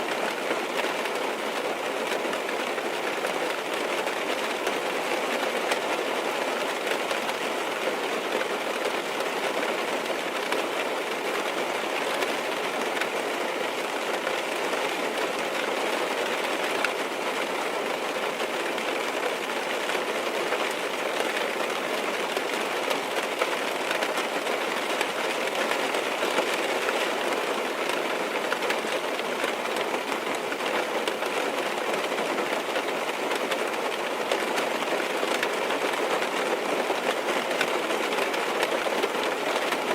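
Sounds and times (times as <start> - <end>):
rain on car roof and windows: 0.0 - 39.9.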